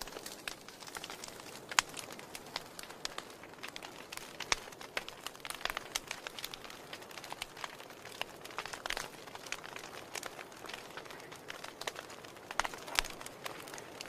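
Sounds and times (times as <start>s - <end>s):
fire crackling and popping: 0.0s - 14.0s
soft fire hiss: 0.0s - 14.0s.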